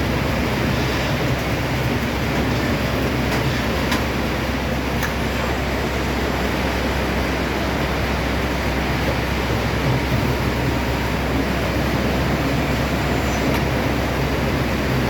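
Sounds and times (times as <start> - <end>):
baler and conveyor belt humming: 0.0 - 15.0.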